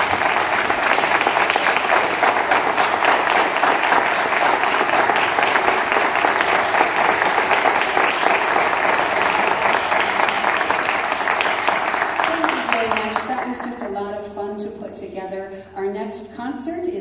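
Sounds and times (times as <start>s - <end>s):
person clapping close by: 0.0s - 13.8s
audience applauding: 0.0s - 14.0s.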